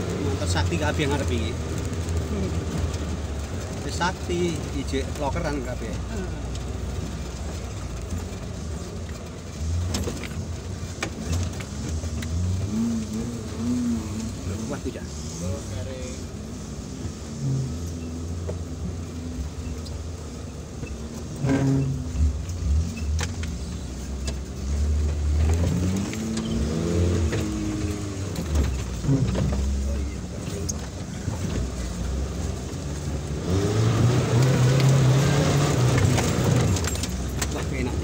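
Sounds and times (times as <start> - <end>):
engine low rumble: 0.0 - 38.0.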